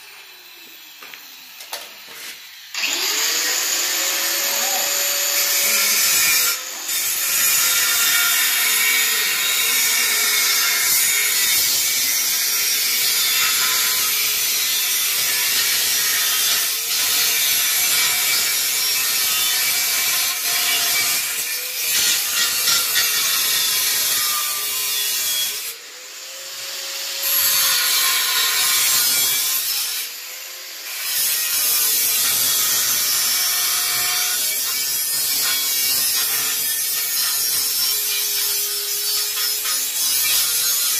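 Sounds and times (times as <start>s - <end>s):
angle grinder cutting metal pipe: 0.0s - 40.9s.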